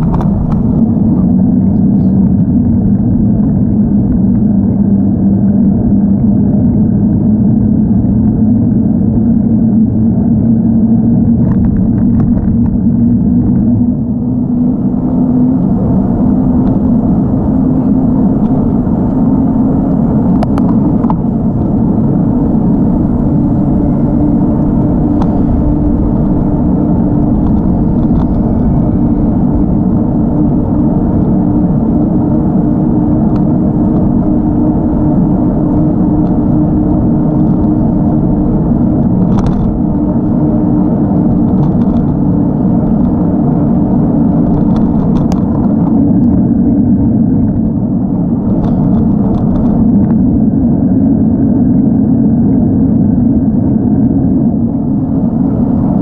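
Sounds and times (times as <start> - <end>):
tyres rolling on asphalt: 0.0 - 7.3, 10.4 - 56.0
wind buffeting microphone: 0.0 - 56.0.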